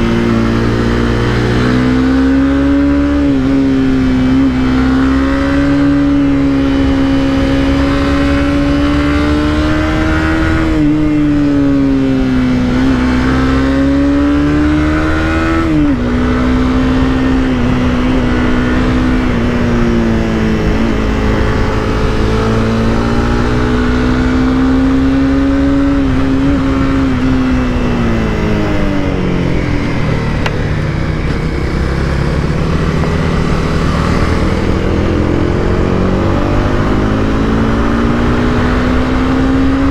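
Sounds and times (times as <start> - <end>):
motorcycle engine running: 0.0 - 39.9
rushing wind noise: 0.0 - 39.9.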